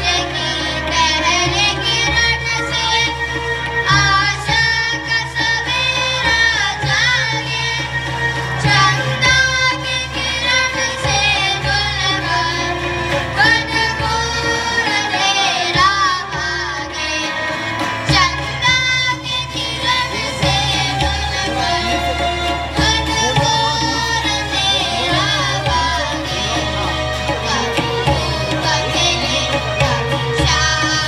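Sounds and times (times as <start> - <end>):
children singing into microphones: 0.0 - 31.0
keyboard: 0.0 - 31.0
tabla: 0.0 - 31.0.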